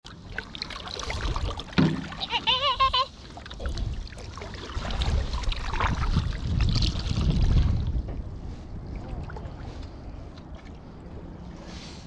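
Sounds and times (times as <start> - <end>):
paddle water rush: 0.2 - 12.0.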